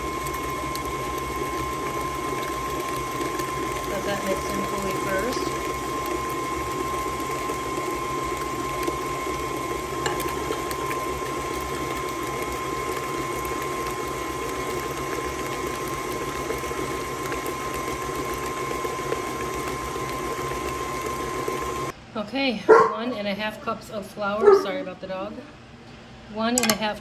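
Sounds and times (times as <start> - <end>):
stand mixer motor whine: 0.0 - 21.9.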